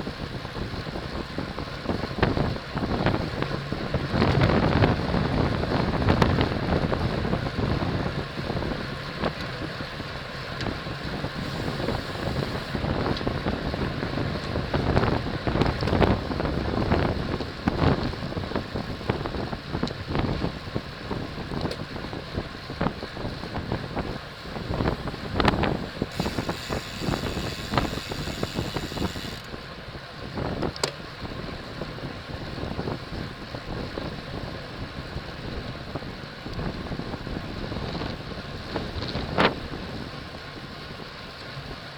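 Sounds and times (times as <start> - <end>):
wind rushing over microphone: 0.0 - 41.8.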